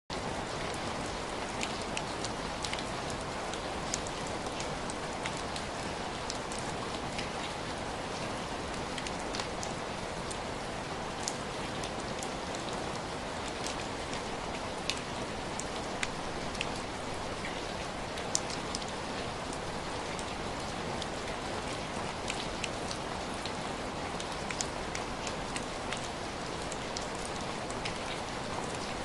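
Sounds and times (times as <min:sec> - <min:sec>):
raindrops ticking close by: 0:00.1 - 0:29.0
steady rain falling: 0:00.1 - 0:29.0.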